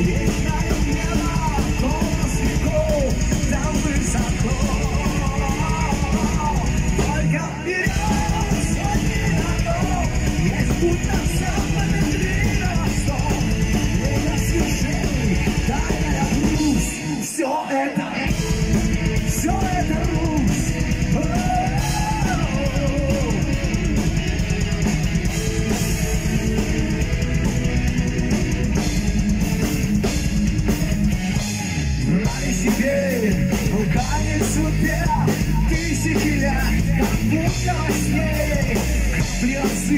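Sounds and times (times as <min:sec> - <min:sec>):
person singing lead vocals: 0:00.0 - 0:27.2, 0:31.8 - 0:39.9
heavy rock band playing: 0:00.0 - 0:39.9.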